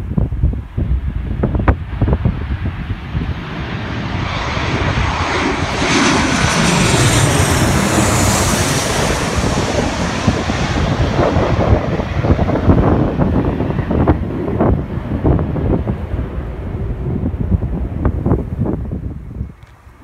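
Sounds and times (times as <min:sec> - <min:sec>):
jet airliner flying overhead: 0:00.0 - 0:20.0.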